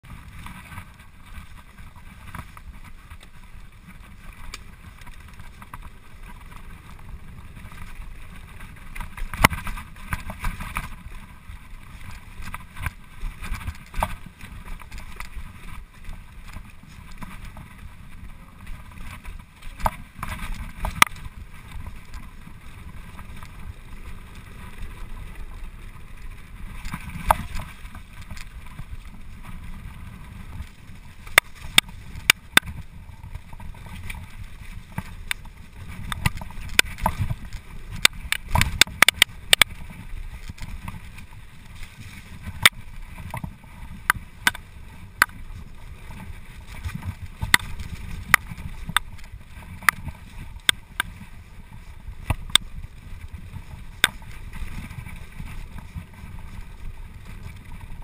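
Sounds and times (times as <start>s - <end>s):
bike knocking and rattling on rocks: 0.0s - 58.0s
bike tyres rumbling on gravel: 0.0s - 58.0s
wind on microphone: 0.0s - 58.0s.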